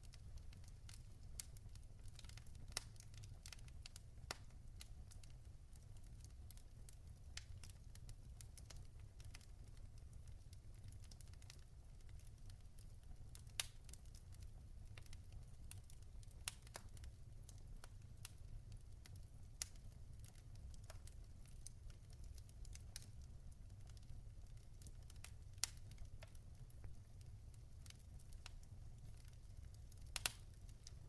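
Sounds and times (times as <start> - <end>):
logs crackling and popping: 0.0 - 5.4, 6.0 - 31.0
low rumble of fire: 0.0 - 31.0.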